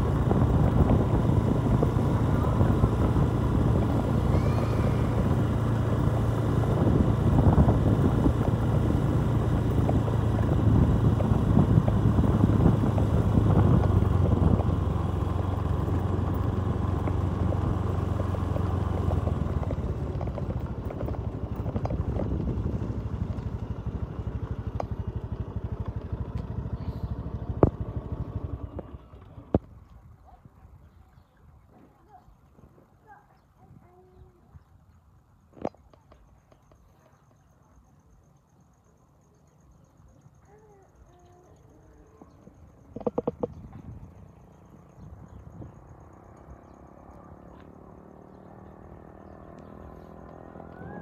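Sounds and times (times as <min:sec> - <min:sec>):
motorcycle engine running: 0:00.0 - 0:30.7, 0:39.8 - 0:51.0.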